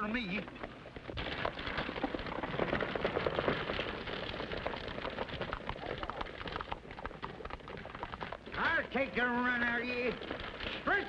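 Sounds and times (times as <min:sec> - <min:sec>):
film soundtrack hiss and crackle: 0:00.0 - 0:11.0
horse hooves clattering: 0:00.0 - 0:11.0.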